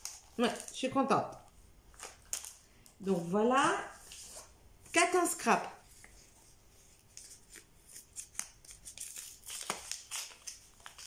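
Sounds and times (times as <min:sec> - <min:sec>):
paper and card rustling: 0:01.9 - 0:11.0.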